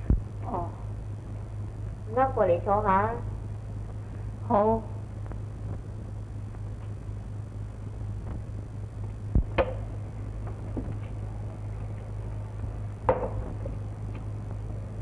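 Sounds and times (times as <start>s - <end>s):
mains hum and hiss: 0.0s - 15.0s.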